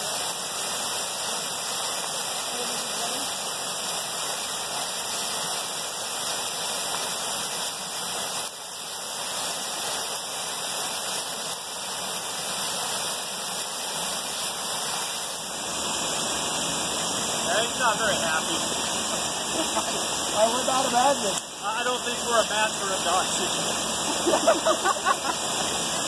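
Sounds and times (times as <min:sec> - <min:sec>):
creek rushing over rocks: 0:00.0 - 0:26.0.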